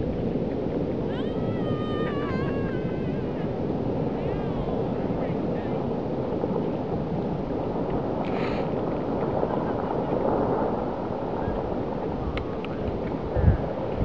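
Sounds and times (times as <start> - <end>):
rockfall rumble: 0.0 - 14.0.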